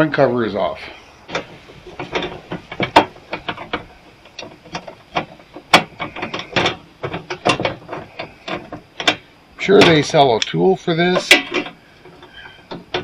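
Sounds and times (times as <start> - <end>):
hand tools clicking on metal: 1.3 - 13.0.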